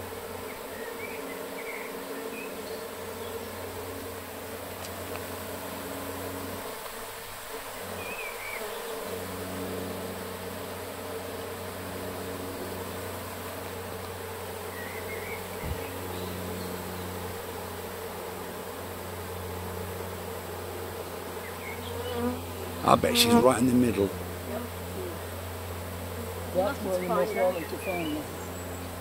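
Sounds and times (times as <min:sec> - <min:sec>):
honeybees buzzing: 0:00.0 - 0:29.0.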